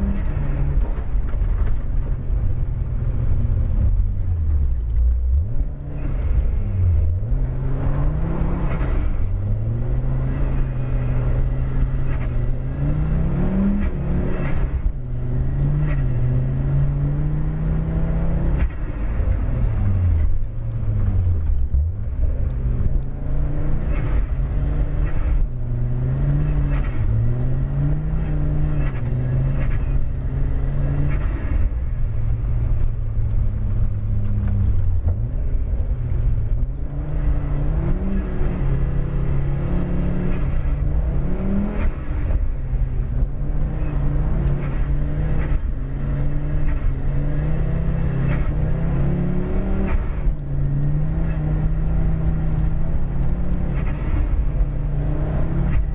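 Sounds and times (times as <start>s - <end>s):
car engine revving: 0.0s - 55.9s
low rumble: 0.0s - 55.9s.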